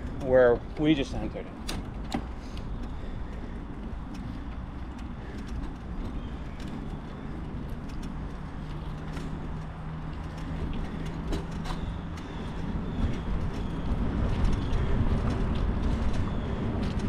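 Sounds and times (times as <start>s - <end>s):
bicycle tyres rumbling: 0.0s - 17.0s
light clicks and rattles: 0.0s - 17.0s.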